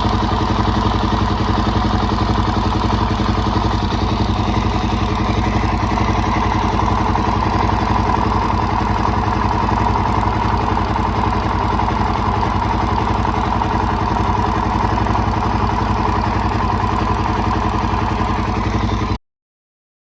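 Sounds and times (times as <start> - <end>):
engine ticking: 0.0 - 19.2
motorcycle engine idling: 0.0 - 19.2.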